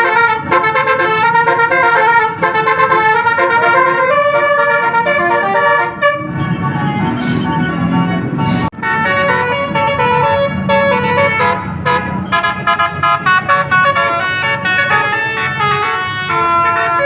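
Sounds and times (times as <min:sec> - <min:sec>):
musical air horn melody: 0:00.0 - 0:17.0.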